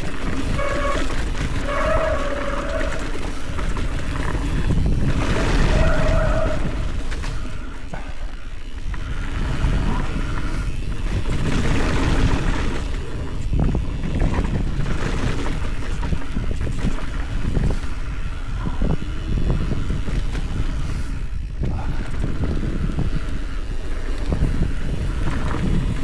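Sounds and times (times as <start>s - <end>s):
bike knocking and rattling: 0.0s - 26.0s
tyres rolling on dirt trail: 0.0s - 26.0s
wind buffeting microphone: 0.0s - 26.0s.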